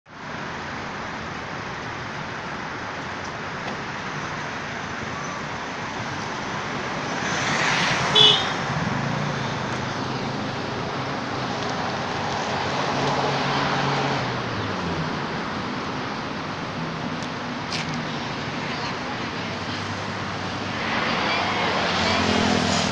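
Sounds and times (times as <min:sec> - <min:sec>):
road traffic passing: 0:00.1 - 0:22.9.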